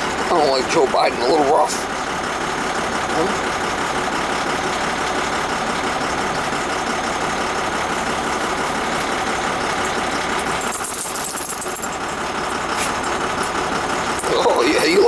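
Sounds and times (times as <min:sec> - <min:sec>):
rough truck engine running: 0:00.0 - 0:15.0.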